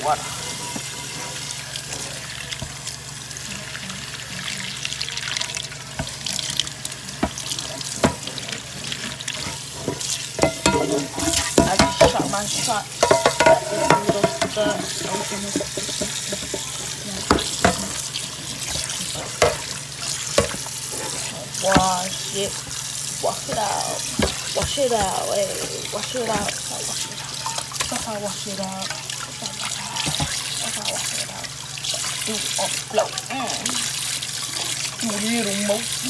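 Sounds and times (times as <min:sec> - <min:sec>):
tap water running into sink: 0:00.0 - 0:36.0.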